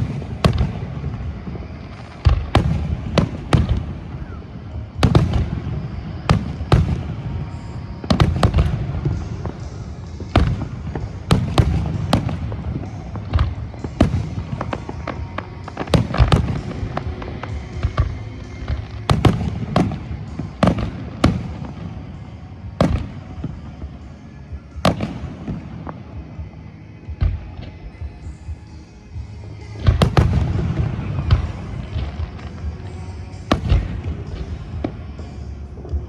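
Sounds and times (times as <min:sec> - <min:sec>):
continuous low rumble: 0:00.0 - 0:36.0
fireworks bangs: 0:00.0 - 0:36.0.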